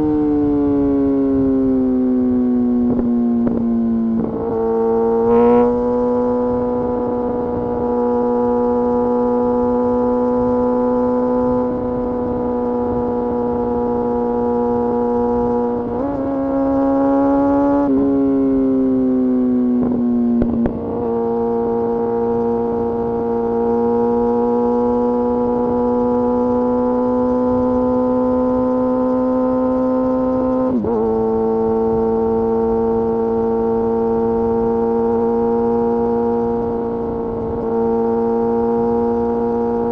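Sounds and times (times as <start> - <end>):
motorcycle engine high-revving: 0.0 - 39.9.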